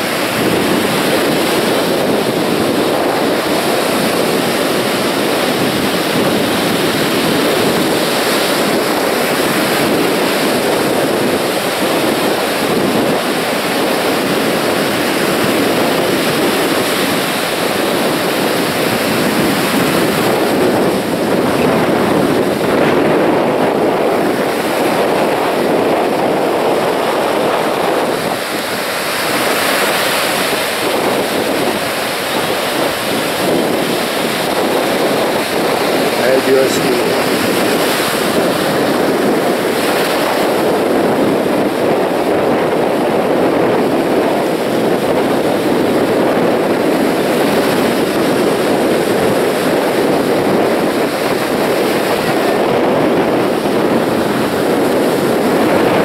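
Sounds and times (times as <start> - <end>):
surf breaking on beach: 0.0 - 56.0.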